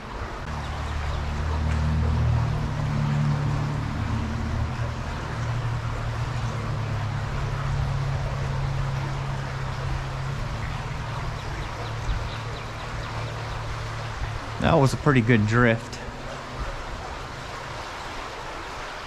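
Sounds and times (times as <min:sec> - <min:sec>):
low steady drone: 0:00.0 - 0:19.0
small stream running: 0:00.0 - 0:19.0.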